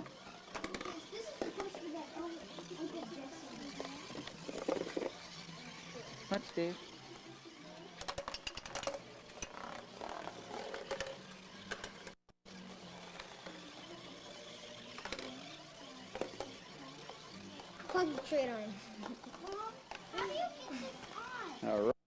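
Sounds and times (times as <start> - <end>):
plastic balls clicking and clattering: 0.0 - 6.8, 8.0 - 12.2, 13.0 - 20.4.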